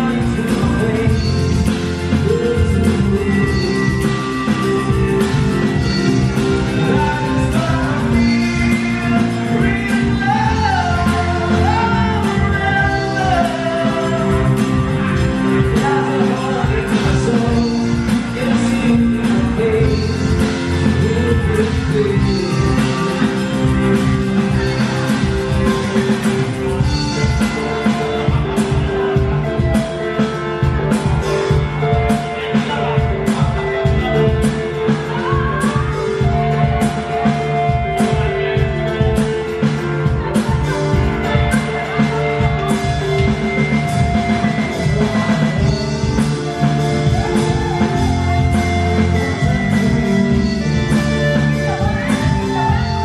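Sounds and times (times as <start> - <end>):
guitars: 0.0 - 53.0
keyboard: 0.0 - 53.0
person singing: 0.0 - 53.0.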